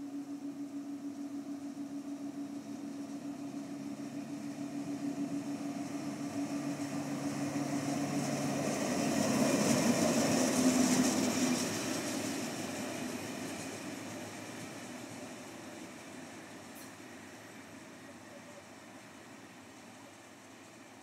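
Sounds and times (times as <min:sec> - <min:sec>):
low railway hum: 0:00.0 - 0:21.0
train rumbling and hissing: 0:00.0 - 0:21.0.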